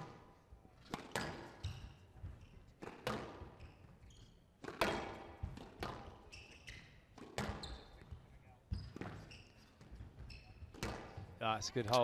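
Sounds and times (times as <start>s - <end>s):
court shoes squeaking: 0.0s - 12.0s.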